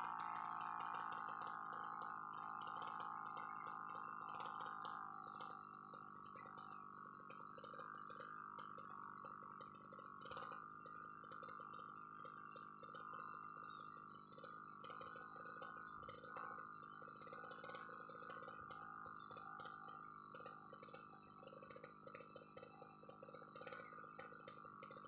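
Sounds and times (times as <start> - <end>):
faint brush cutter engine running: 0.0 - 25.0.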